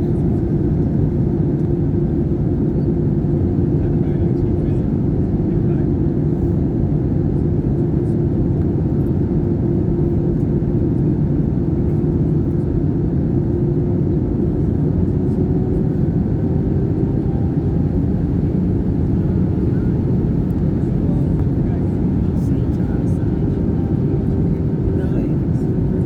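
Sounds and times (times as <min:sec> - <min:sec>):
airplane engine rumble: 0:00.0 - 0:26.0
constant hum: 0:00.0 - 0:26.0.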